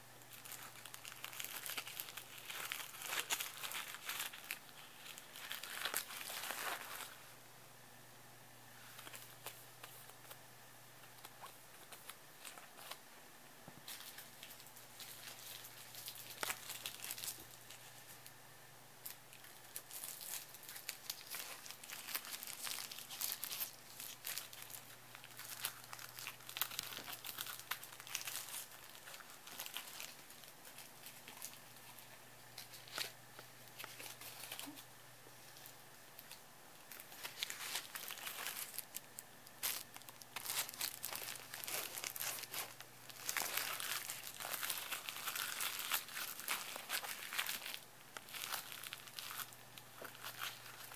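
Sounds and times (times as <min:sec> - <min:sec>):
cellophane crinkling: 0:00.0 - 0:07.3, 0:08.8 - 0:13.2, 0:13.8 - 0:18.4, 0:19.0 - 0:50.9.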